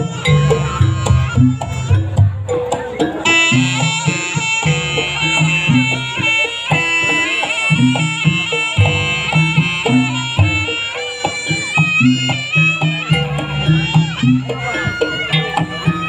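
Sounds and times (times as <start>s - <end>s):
shrill reed trumpet melody: 0.0s - 2.2s, 3.2s - 16.0s
low drum beats: 0.0s - 16.0s.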